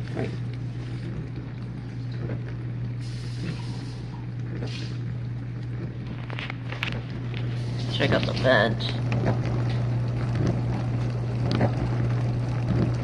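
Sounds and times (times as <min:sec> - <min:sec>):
dishwasher humming: 0:00.0 - 0:13.0.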